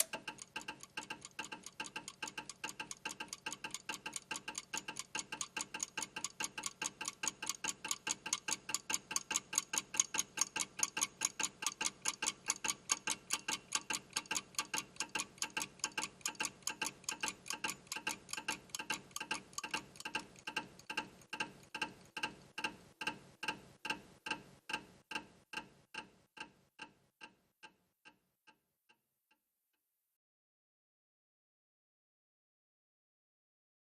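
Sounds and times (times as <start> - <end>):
clockwork mechanism ticking: 0.0 - 28.2.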